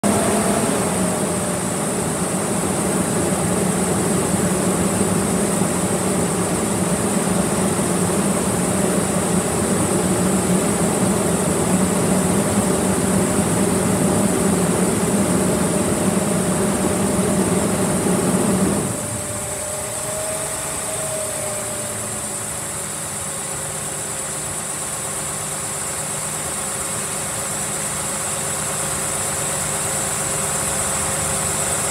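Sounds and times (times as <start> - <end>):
diesel engine running roughly: 0.0 - 31.9
engine idle hum: 0.0 - 31.9.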